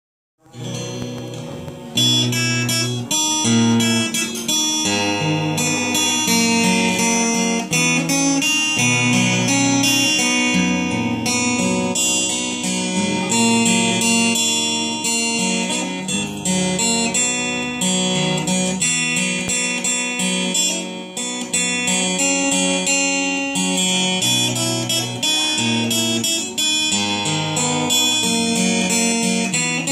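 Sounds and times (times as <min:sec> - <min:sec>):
acoustic guitar strumming chords: 0:00.4 - 0:29.9.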